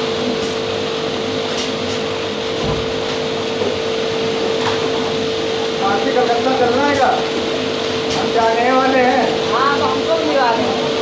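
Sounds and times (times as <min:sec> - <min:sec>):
bottle-filling machine hum: 0:00.0 - 0:11.0.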